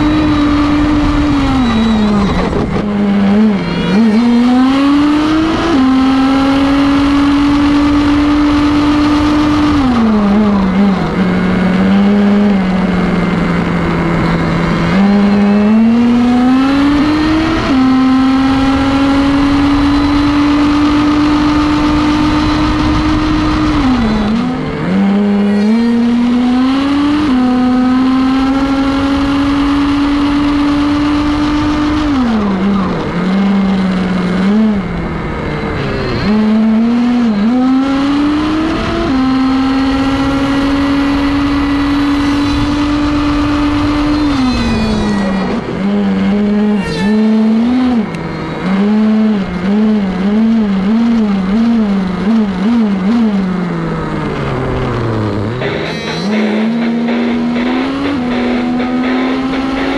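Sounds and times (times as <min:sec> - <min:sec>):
small engine revving high: 0:00.0 - 0:59.9.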